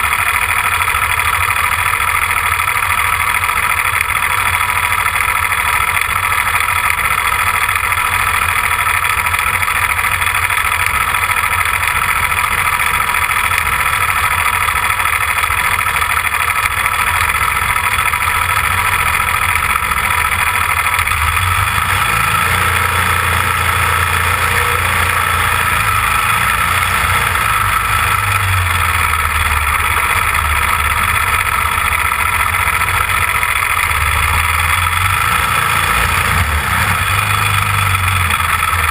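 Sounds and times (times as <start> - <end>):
race car engine idling: 0.0 - 38.9.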